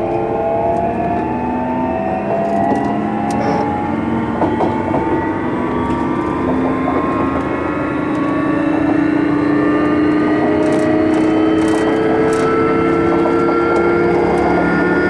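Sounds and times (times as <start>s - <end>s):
electric train motors whining: 0.0s - 15.0s
wheel and rail rumble: 0.0s - 15.0s.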